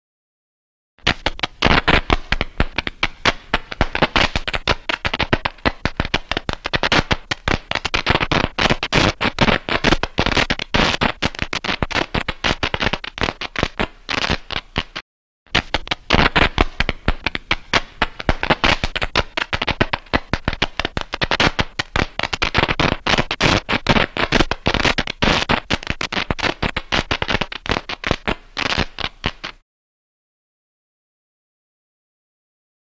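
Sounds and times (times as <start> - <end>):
static crackling: 1.0 - 29.6.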